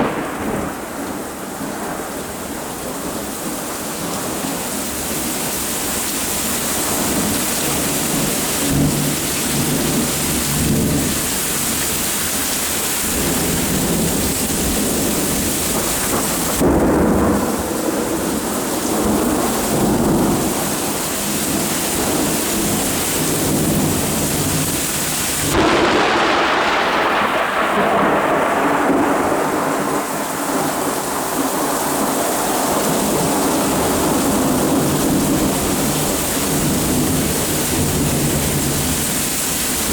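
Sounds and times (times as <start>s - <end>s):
rumbling thunder: 0.0s - 5.1s, 6.8s - 11.7s, 13.0s - 39.9s
steady rain: 0.0s - 39.9s.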